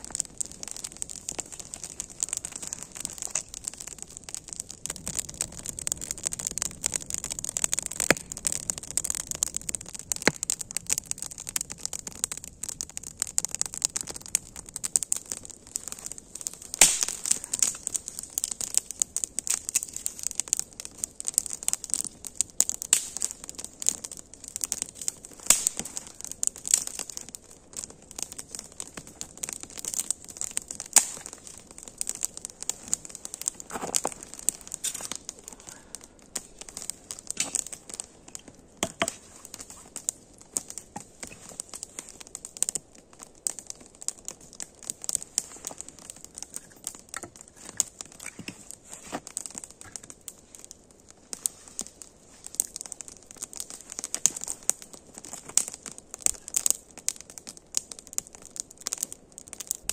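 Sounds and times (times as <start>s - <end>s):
campfire crackling: 0.0s - 59.9s
sharp snaps of fire: 0.0s - 59.9s.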